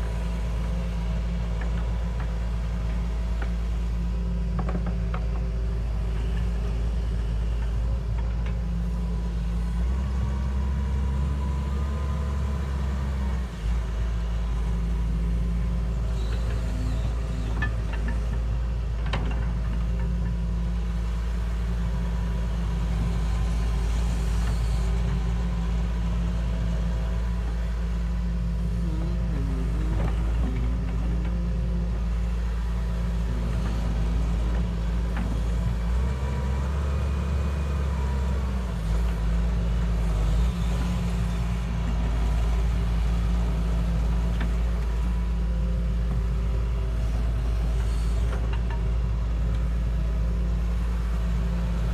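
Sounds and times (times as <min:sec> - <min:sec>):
heavy machine engine rumbling: 0:00.0 - 0:51.9.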